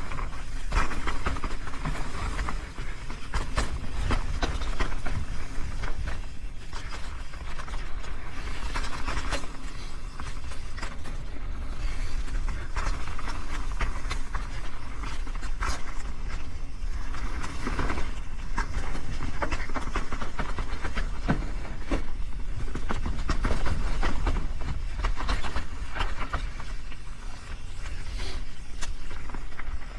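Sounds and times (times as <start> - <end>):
bike clicks and rattles: 0.0 - 29.9
tyres rolling over rocky ground: 0.0 - 29.9
wind rumbling on microphone: 0.0 - 29.9.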